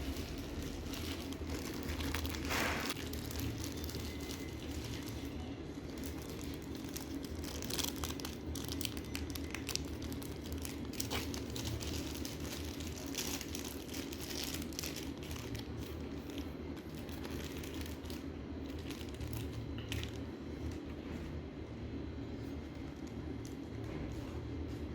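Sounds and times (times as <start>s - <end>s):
plastic tearing: 0.0s - 20.8s
plastic packaging crinkling: 0.0s - 20.9s
steady low hum: 0.0s - 24.9s.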